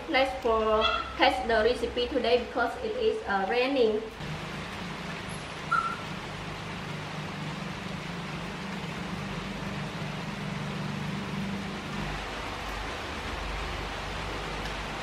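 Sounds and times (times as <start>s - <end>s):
low steady hum: 0.0s - 15.0s
rain falling: 0.0s - 15.0s.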